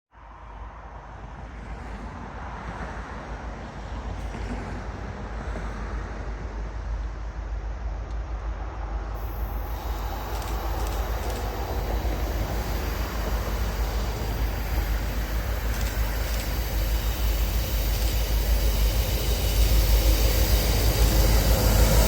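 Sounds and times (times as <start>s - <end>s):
train rumble: 0.7s - 22.0s.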